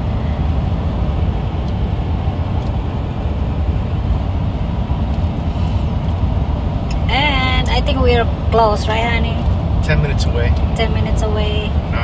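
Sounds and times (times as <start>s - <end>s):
car road rumble from inside: 0.0s - 12.0s.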